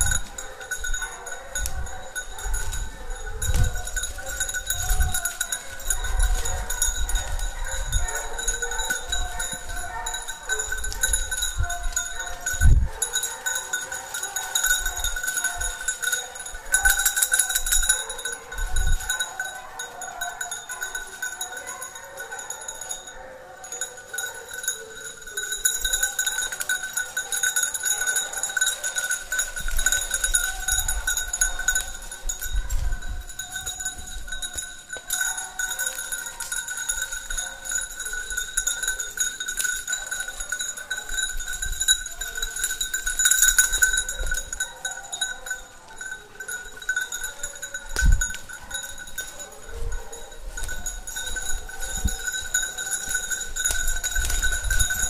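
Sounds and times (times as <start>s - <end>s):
collar bells ringing: 0.0s - 55.0s
hounds baying: 0.0s - 55.0s.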